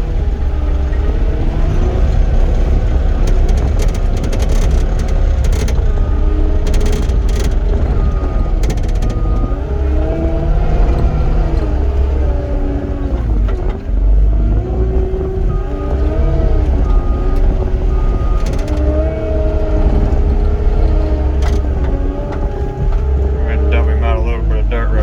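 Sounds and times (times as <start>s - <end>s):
diesel engine under load: 0.0s - 25.0s.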